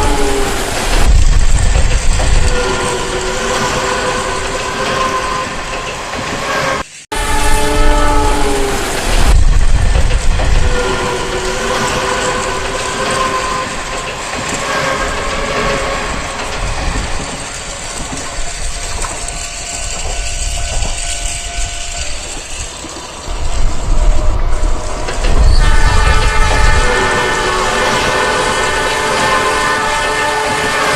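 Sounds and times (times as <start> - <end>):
train rumble and wheel clatter: 0.0 - 30.9.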